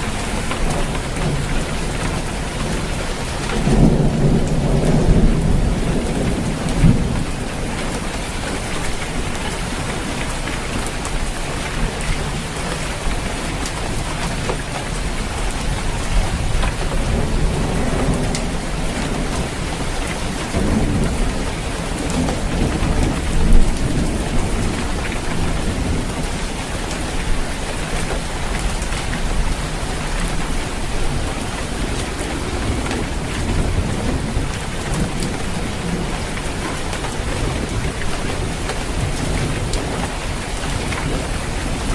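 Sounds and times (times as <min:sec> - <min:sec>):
heavy rain on a roof: 0:00.0 - 0:41.9
low thunder rumbles: 0:00.0 - 0:41.9.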